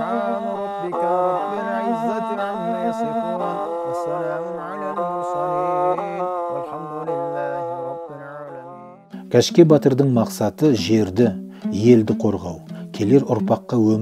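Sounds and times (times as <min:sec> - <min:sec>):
slow melody of held notes: 0:00.0 - 0:14.0.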